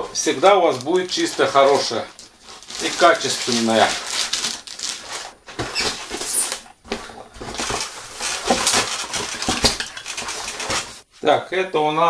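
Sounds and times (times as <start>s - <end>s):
packaging rustling and crinkling: 0.0s - 11.1s.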